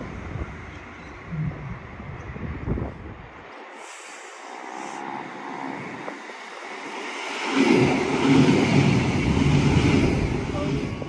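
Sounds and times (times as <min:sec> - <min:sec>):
wind gusts on microphone: 0:00.0 - 0:03.8, 0:04.4 - 0:11.0
electric train approaching: 0:00.0 - 0:11.0.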